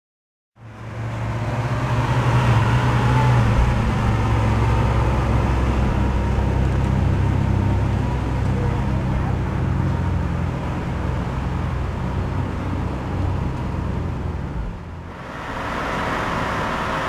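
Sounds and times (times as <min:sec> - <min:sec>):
car engine low drone: 0:00.6 - 0:17.0.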